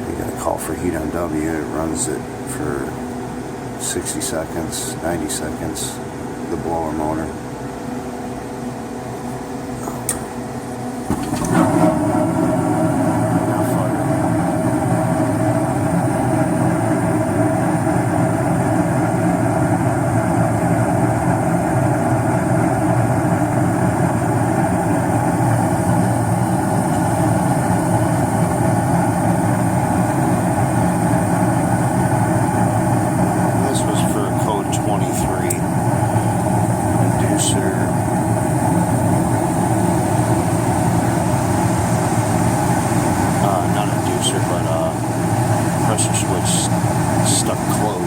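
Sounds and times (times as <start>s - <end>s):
gas furnace rumbling: 0.0s - 48.0s.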